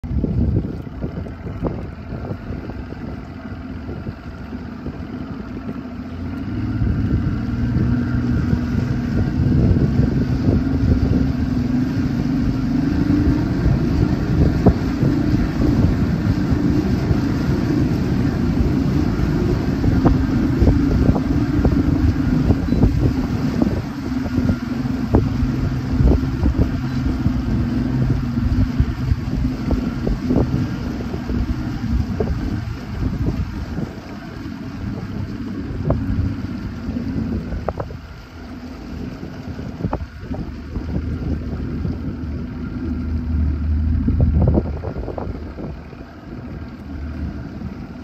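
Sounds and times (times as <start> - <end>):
outboard motor running: 0.0 - 48.0
wind buffeting microphone: 0.0 - 48.0.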